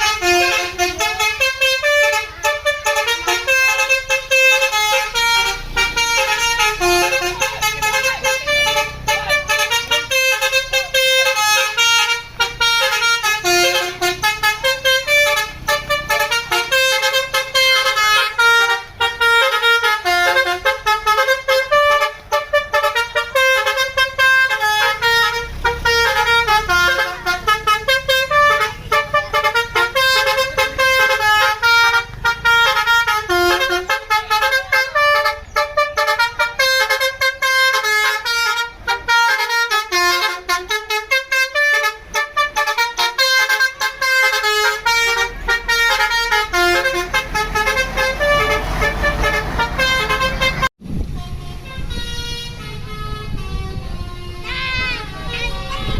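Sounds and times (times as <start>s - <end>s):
multi-tone air horn melody: 0.0s - 55.9s.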